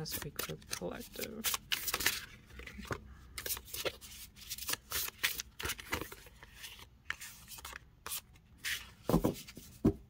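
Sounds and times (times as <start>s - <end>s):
cards rustling and sliding on cloth: 0.0s - 9.9s.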